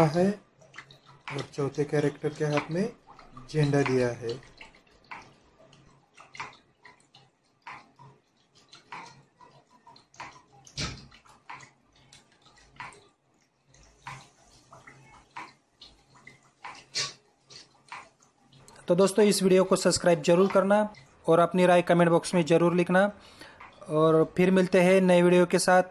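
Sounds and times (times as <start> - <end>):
water dripping and splashing: 0.0 - 25.9.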